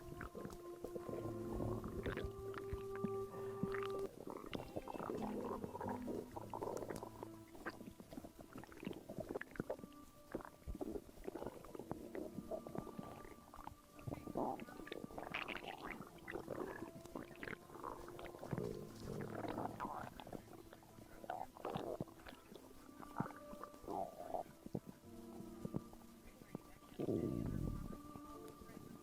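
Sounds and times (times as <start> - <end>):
stomach gurgling: 0.0 - 29.0.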